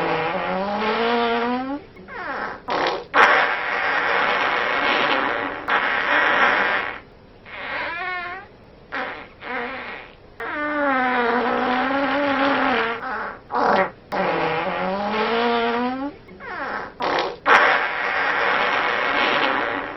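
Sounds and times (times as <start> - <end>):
fart sound effects: 0.0 - 19.9.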